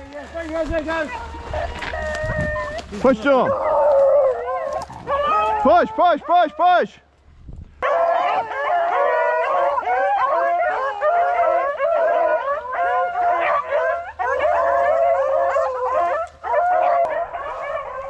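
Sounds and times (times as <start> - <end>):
dogs baying: 0.7 - 6.6, 7.8 - 18.0.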